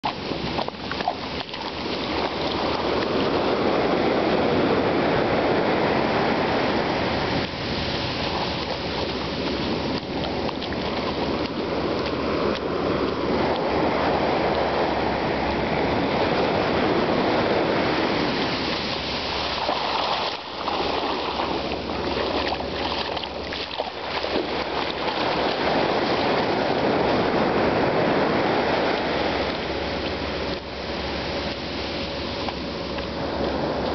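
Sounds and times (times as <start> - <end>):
sea surf washing over sand: 0.0 - 33.9.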